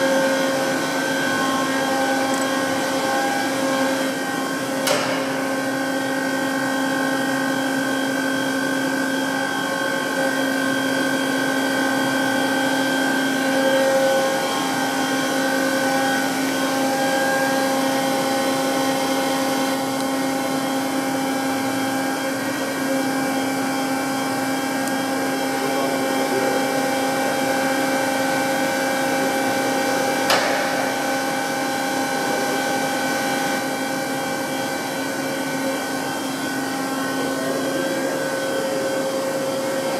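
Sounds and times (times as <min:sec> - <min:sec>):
grinder humming and whining: 0:00.0 - 0:39.9.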